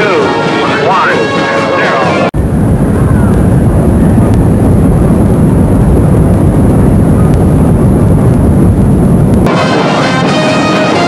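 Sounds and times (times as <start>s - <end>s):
rocket engines roaring: 0.0s - 11.0s.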